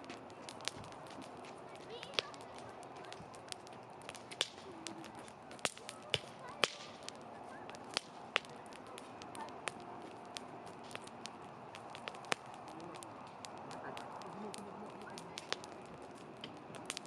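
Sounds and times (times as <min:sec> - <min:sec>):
campfire crackling and popping: 0:00.0 - 0:17.0
faint steady hiss: 0:00.0 - 0:17.0.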